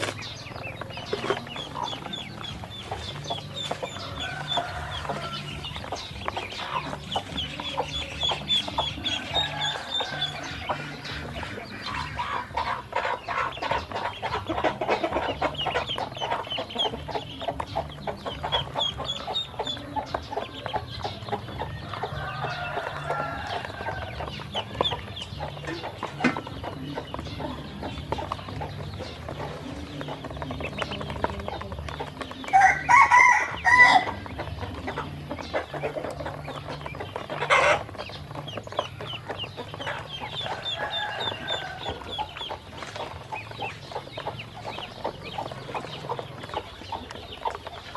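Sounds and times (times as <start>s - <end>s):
ducklings pecking and clicking: 0.0s - 47.9s
ducklings peeping: 0.0s - 47.9s.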